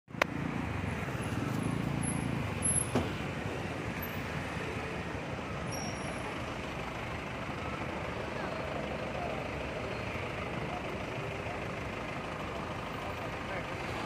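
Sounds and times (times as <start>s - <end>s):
motorbike and car engines: 0.1s - 14.0s.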